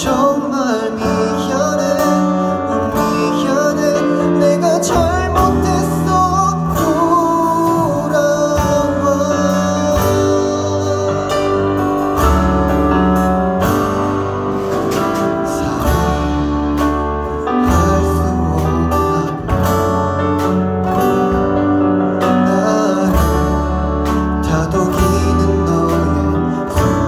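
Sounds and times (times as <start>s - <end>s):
strummed acoustic guitar: 0.0s - 27.0s
sustained bass notes: 0.0s - 27.0s.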